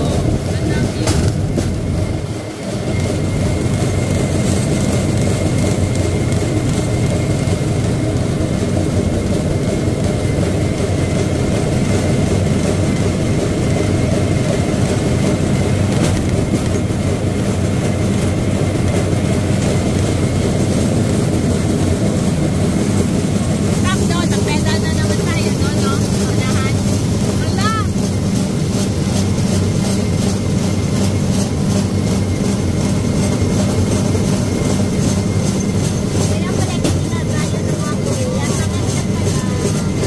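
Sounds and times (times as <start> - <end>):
steel wheels rumbling on rails: 0.0 - 40.0.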